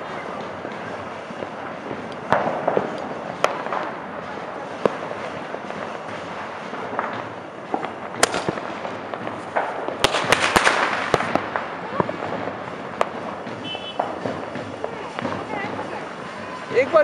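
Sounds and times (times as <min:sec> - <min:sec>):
firecrackers crackling: 0:00.0 - 0:17.0
fireworks bangs: 0:00.0 - 0:17.0.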